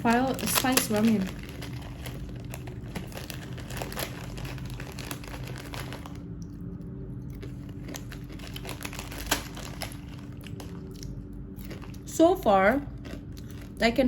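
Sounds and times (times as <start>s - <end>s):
packet crinkling: 0.0s - 6.4s, 7.3s - 12.1s, 12.8s - 13.9s
crunchy snack being eaten: 0.0s - 6.6s, 7.2s - 12.1s, 12.8s - 13.8s.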